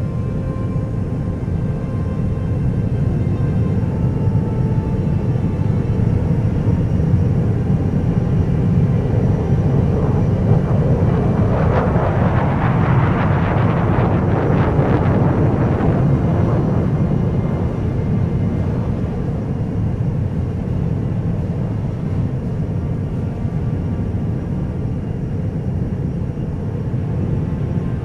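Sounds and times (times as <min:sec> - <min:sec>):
jet aircraft roar: 0:00.0 - 0:28.0.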